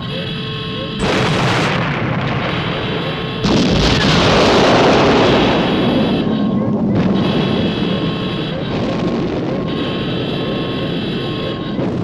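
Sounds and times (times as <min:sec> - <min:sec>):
explosion blast: 0:01.0 - 0:10.9, 0:11.7 - 0:12.0
deep explosion rumble: 0:01.0 - 0:12.0.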